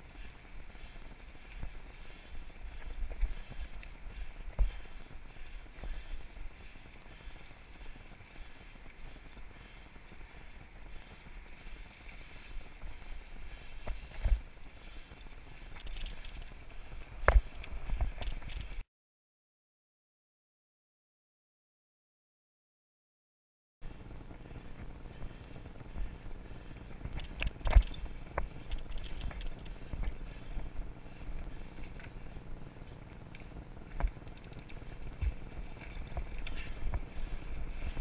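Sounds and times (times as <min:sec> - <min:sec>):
bike riding rumble: 0:00.0 - 0:18.8, 0:23.8 - 0:38.0.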